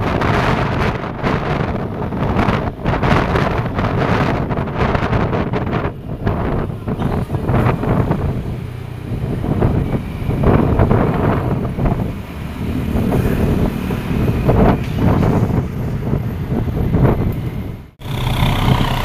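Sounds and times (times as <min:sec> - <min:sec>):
heavy engine rumble passing: 0:00.0 - 0:19.0
wind buffeting microphone: 0:00.0 - 0:19.0.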